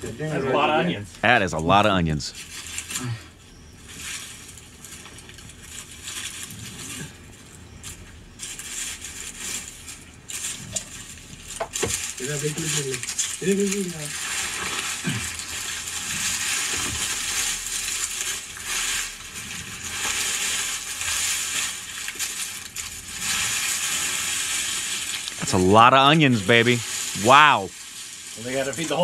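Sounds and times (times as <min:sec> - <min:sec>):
onions rattling onto sack: 0:03.7 - 0:29.0.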